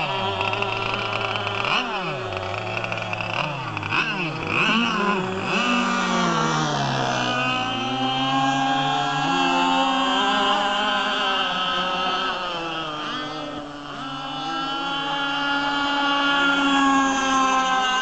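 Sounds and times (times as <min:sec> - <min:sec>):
model boat motor whining: 0:00.0 - 0:18.0.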